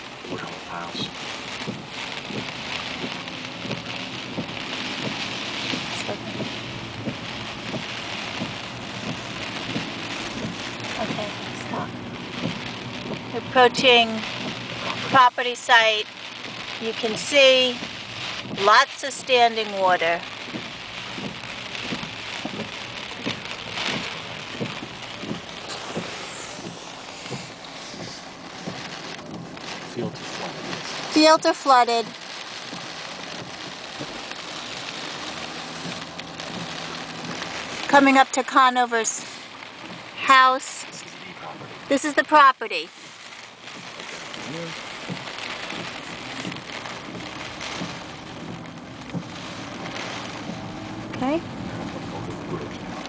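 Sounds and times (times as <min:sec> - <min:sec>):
heavy rain on car: 0:00.0 - 0:53.0
raindrops knocking on car: 0:00.0 - 0:53.0
wet road noise: 0:00.0 - 0:53.0.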